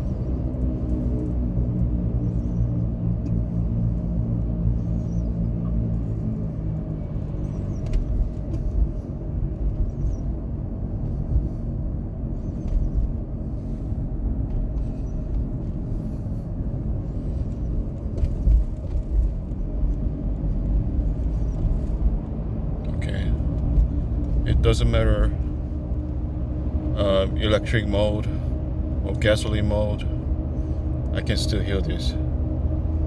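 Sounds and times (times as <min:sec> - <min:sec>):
truck low rumble: 0:00.0 - 0:33.0.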